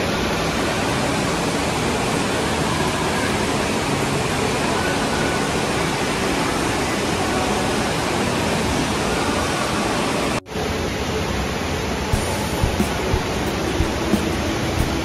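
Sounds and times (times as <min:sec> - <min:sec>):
noise of big indoor hall: 0:00.0 - 0:15.0
rushing water: 0:00.0 - 0:15.0.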